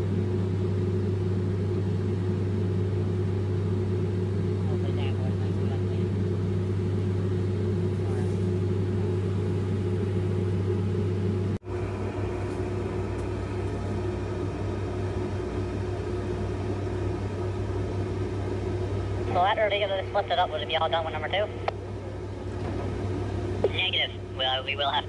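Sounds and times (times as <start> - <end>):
machinery droning: 0.0 - 25.0.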